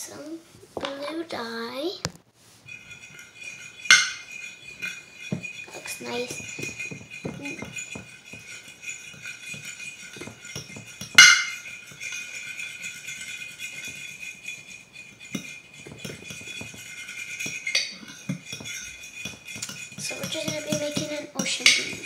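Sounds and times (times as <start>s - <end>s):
shaking rattling percussion: 2.5s - 22.0s.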